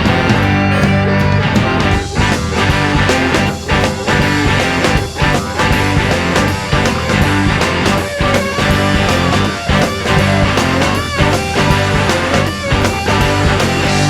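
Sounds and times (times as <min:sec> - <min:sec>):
electric guitar: 0:00.0 - 0:14.0
rock band playing: 0:00.0 - 0:14.0.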